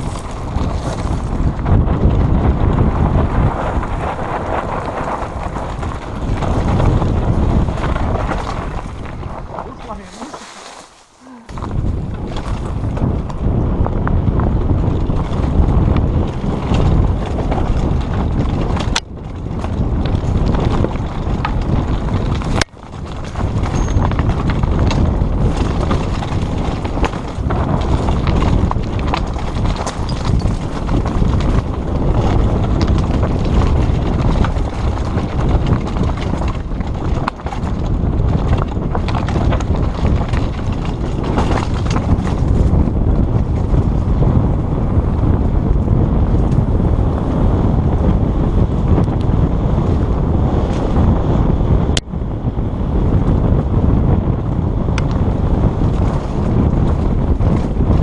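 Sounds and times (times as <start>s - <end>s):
bike tyres clattering on rocky trail: 0.0s - 58.0s
wind on microphone: 0.0s - 58.0s.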